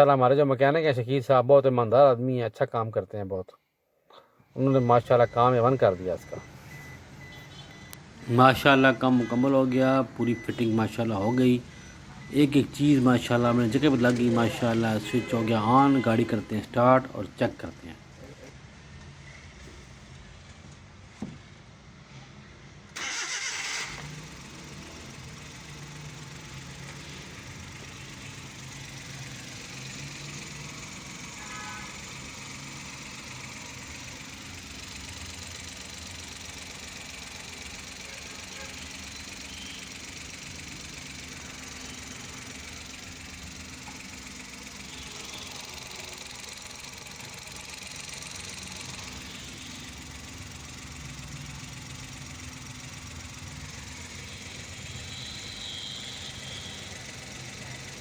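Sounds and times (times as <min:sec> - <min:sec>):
engine starting and idling: 0:04.6 - 0:17.8, 0:22.9 - 0:58.0.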